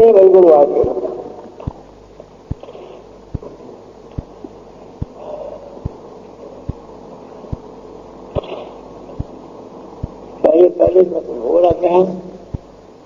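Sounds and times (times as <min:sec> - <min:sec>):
tape hum and hiss: 0:00.0 - 0:13.0.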